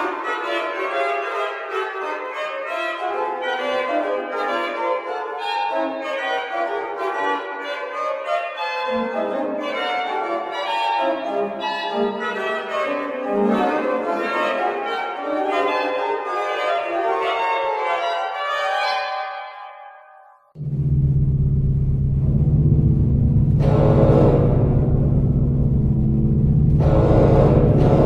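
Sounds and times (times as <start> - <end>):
pipe organ playing: 0.0 - 19.9, 20.6 - 28.0.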